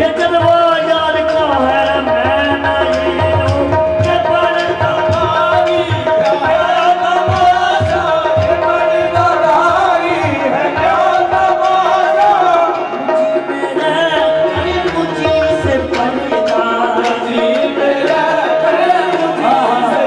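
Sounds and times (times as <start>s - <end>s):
man singing: 0.0s - 20.0s
tabla strokes: 0.0s - 20.0s.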